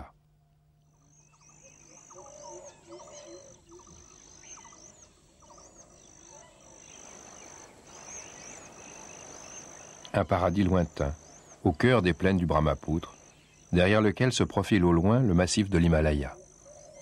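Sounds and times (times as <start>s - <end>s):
birds chirping: 0.0s - 17.0s
rapid low bird calls: 0.8s - 17.0s
high-pitched insect whine: 0.9s - 17.0s.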